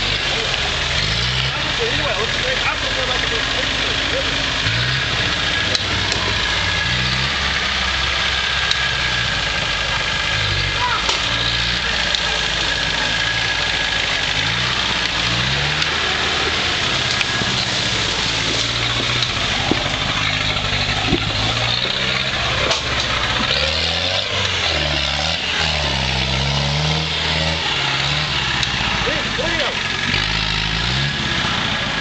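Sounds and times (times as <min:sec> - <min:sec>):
off-road vehicle engine revving: 0:00.0 - 0:32.0
sharp cracks: 0:03.6 - 0:31.9.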